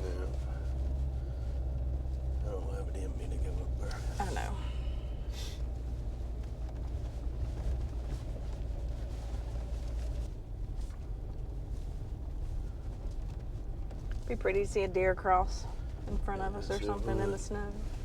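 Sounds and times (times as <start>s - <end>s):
car engine and tyres drone: 0.0s - 18.0s.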